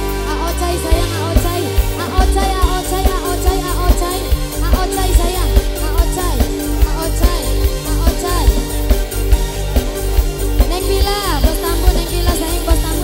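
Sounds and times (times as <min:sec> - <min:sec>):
held chords: 0:00.0 - 0:13.0
sliding melody: 0:00.0 - 0:13.0.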